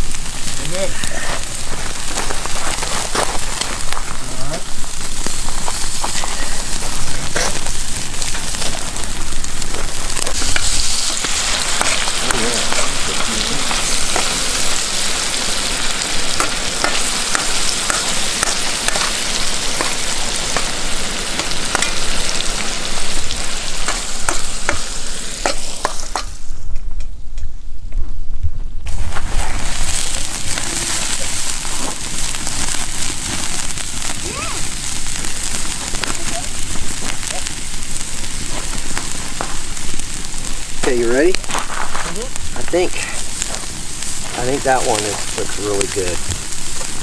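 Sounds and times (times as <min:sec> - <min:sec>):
food sizzling with crackles: 0:00.0 - 0:27.6, 0:28.8 - 0:47.0.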